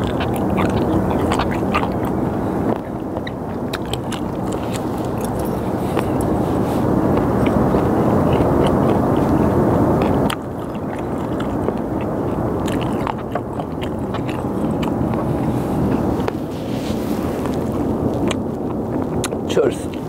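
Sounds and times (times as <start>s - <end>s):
chewing with small crunches: 0.0s - 20.0s
low rushing background noise: 0.0s - 20.0s.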